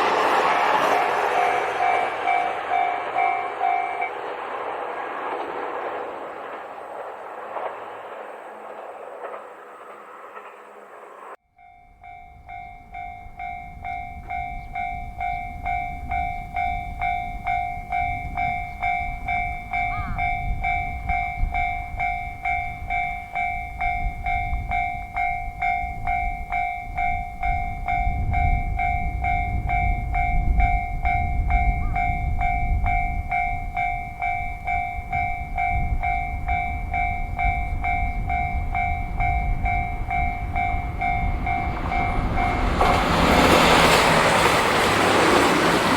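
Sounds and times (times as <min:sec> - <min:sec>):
level crossing warning bell: 0:00.0 - 0:04.5, 0:11.3 - 0:45.9
train rumbling: 0:00.0 - 0:45.9.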